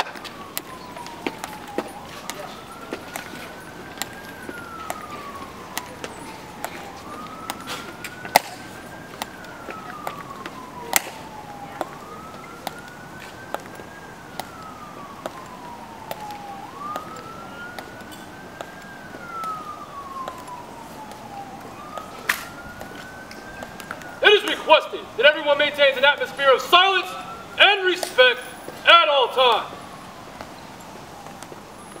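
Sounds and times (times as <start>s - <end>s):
hard-soled shoes on stone: 0.0s - 14.6s, 15.2s - 27.1s
siren wailing: 0.0s - 32.0s.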